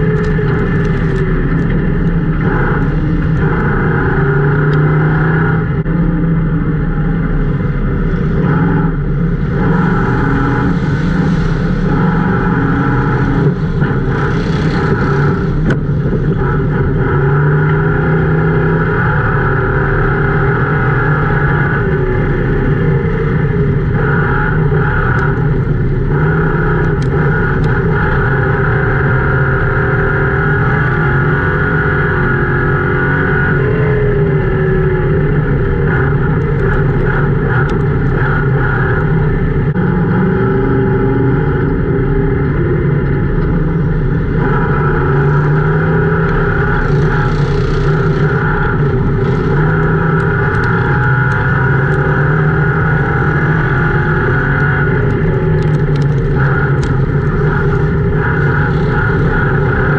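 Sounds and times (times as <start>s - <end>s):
car engine running hard: 0.0s - 59.9s.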